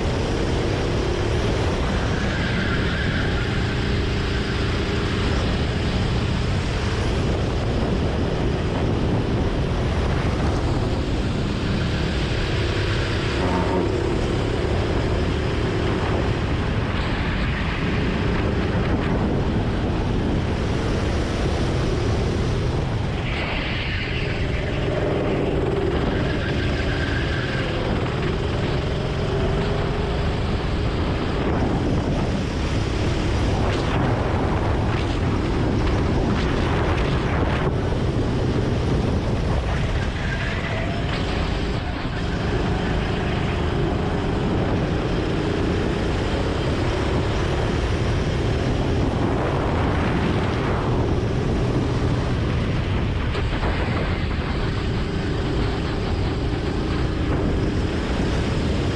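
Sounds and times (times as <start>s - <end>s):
go-kart engine running hard: 0.0s - 58.9s
wind rumble on microphone: 0.0s - 58.9s.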